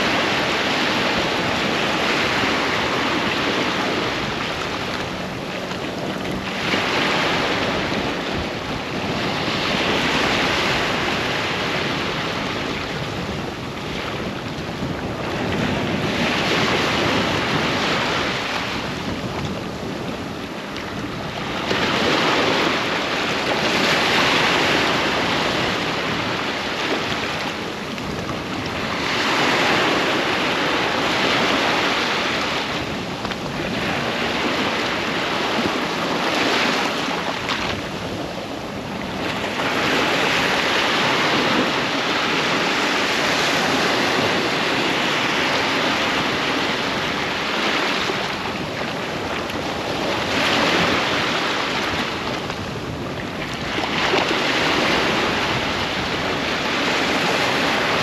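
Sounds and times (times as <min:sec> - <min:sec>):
sea waves breaking on a beach: 0:00.0 - 0:58.0
wind buffeting the microphone: 0:00.0 - 0:58.0.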